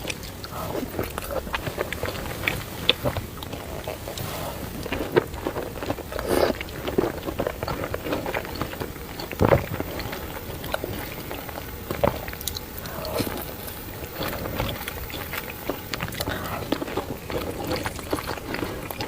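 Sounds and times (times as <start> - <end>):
person chewing and slurping noodles: 0.0 - 19.0.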